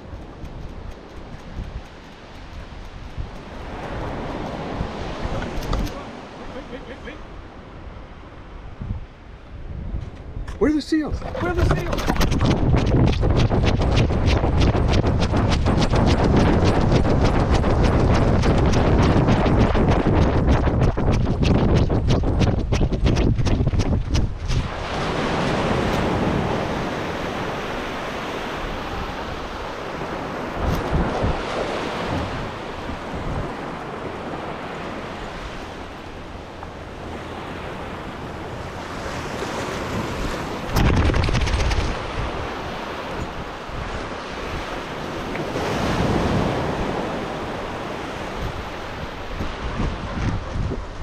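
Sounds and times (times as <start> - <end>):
wind buffeting microphone: 0.0 - 6.4, 7.2 - 51.0
ocean surf washing onto beach: 0.0 - 9.6, 10.2 - 51.0.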